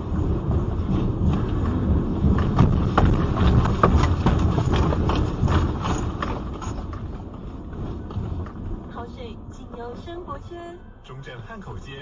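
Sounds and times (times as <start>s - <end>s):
car interior rattling and knocking: 0.0s - 10.5s
heavy low rumble: 0.0s - 12.0s.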